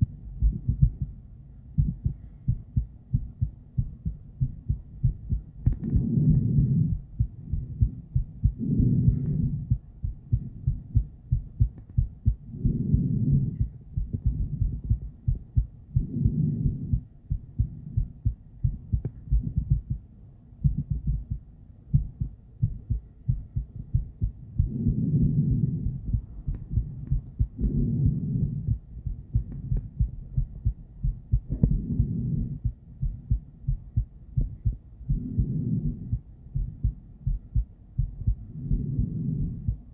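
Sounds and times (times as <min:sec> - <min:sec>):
heartbeat thumps on doppler monitor: 0:00.0 - 0:39.9.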